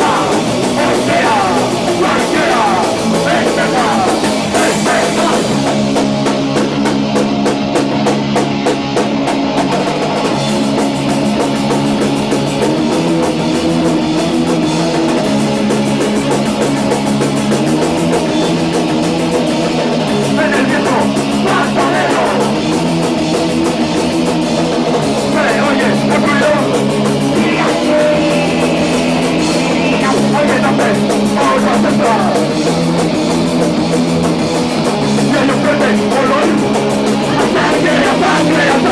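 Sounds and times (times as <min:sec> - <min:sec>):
drum kit with cymbals: 0:00.0 - 0:38.9
electric guitar chords: 0:00.0 - 0:38.9
punk rock band playing live: 0:00.0 - 0:38.9.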